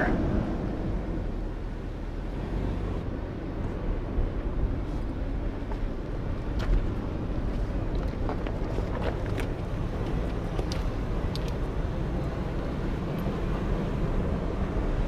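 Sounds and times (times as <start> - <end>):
pickup truck engine and tyres rumbling: 0.0 - 15.0.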